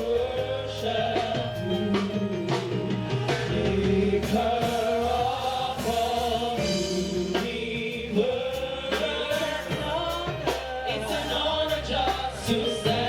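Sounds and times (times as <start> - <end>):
drum hits: 0.0 - 13.0
gospel singers holding long notes: 0.0 - 13.0
live band: 0.0 - 13.0.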